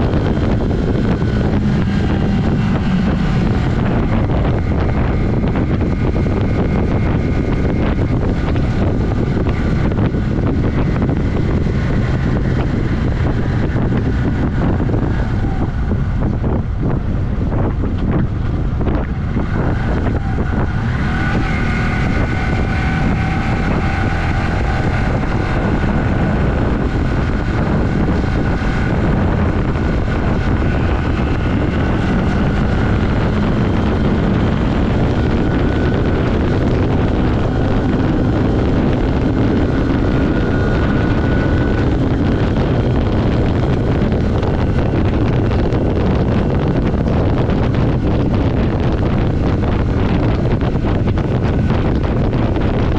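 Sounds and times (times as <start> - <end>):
motorcycle engine running hard: 0.0 - 52.9
wind rush on microphone: 0.0 - 52.9.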